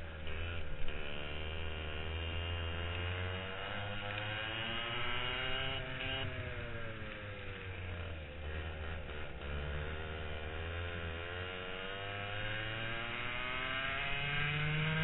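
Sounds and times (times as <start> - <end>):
kart engine revving: 0.0 - 15.0.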